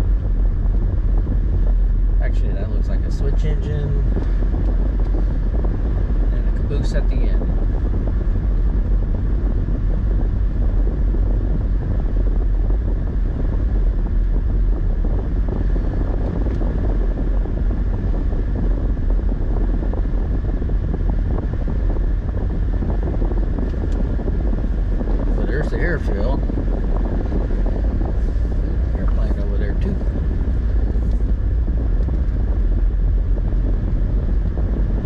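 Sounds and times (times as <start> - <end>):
car engine rumble: 0.0 - 35.0
wind buffeting microphone: 0.0 - 35.0.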